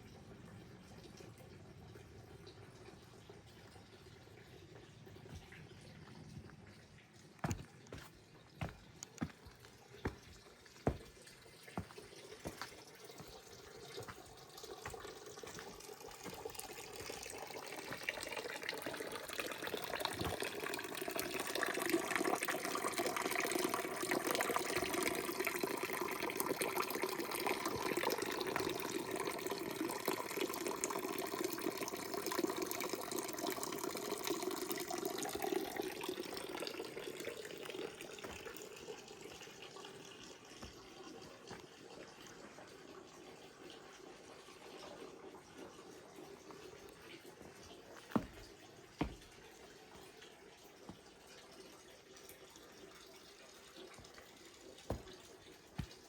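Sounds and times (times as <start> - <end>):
running water splashing: 5.1 - 30.4, 34.8 - 56.0.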